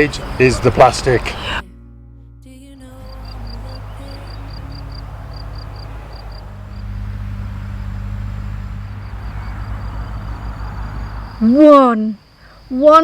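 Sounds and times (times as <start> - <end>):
crickets chirping: 0.0 - 1.6, 3.0 - 13.0
engine humming: 0.0 - 13.0.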